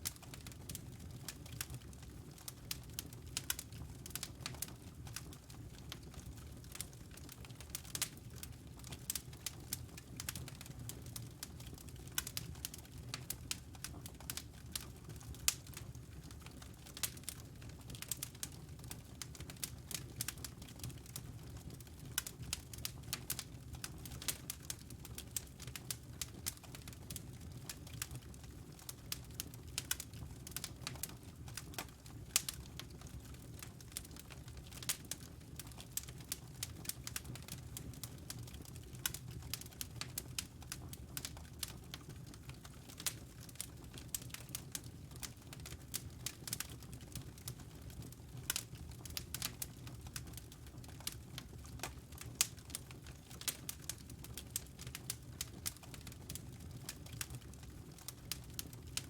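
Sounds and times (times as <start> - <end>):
logs crackling in fireplace: 0.0 - 59.0.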